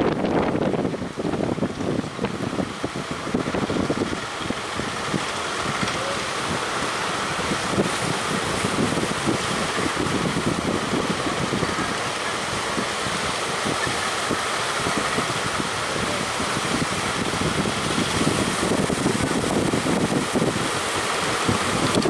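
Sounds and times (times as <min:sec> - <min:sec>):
waves breaking: 0:00.0 - 0:22.0
wind buffeting microphone: 0:00.0 - 0:22.0.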